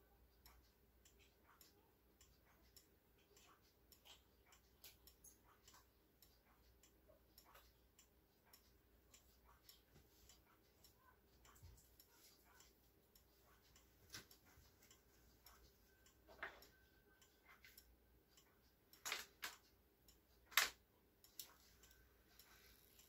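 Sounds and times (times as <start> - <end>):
clock ticking: 0.0 - 23.0.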